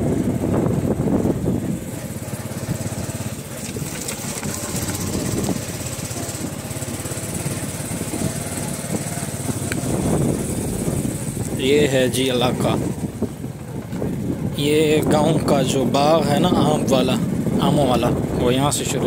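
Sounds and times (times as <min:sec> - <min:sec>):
motorcycle engine puttering: 0:00.0 - 0:19.0.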